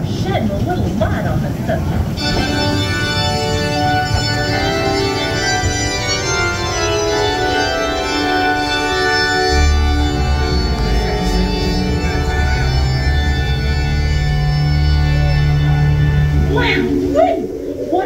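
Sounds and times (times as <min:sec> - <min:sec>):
organ chords: 0:02.1 - 0:17.6
low rumble: 0:02.2 - 0:18.0.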